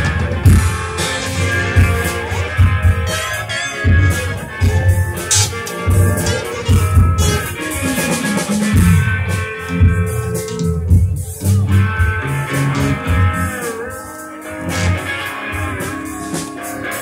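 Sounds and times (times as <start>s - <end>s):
bass guitar notes: 0.0s - 17.0s
electric guitar lead notes: 0.0s - 17.0s.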